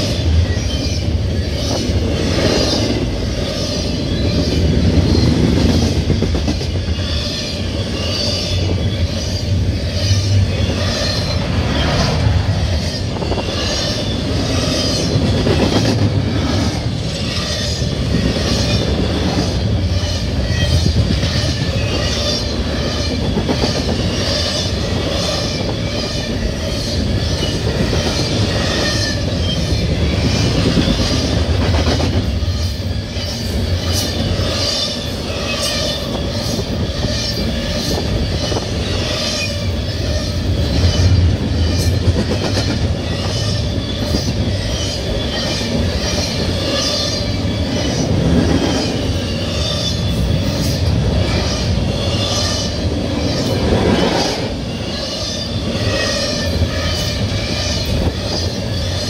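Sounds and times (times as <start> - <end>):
freight train rumbling: 0.0 - 59.0.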